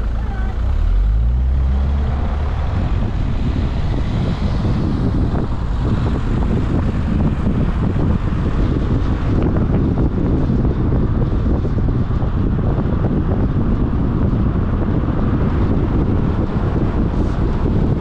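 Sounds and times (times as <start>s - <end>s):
car wind and road noise: 0.0s - 18.0s
wind buffeting microphone: 0.0s - 18.0s.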